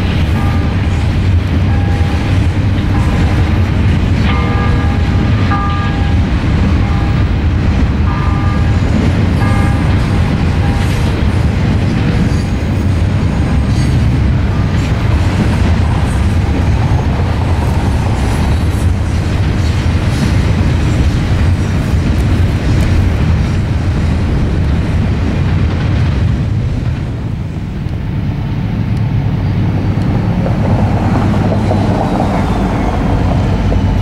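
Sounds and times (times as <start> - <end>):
train cars rumbling past: 0.0 - 34.0.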